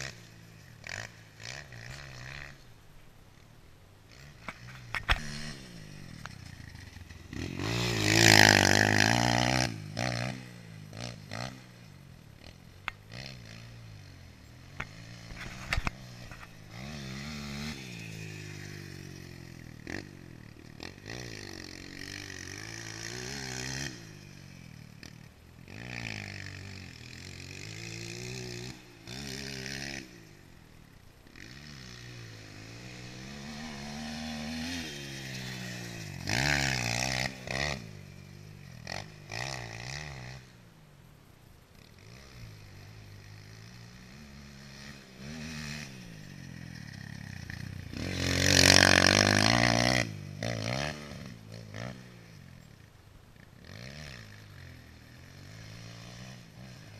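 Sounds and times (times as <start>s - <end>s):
dirt bike engine revving: 0.0s - 2.8s, 4.1s - 40.6s, 41.5s - 52.9s, 53.6s - 56.9s.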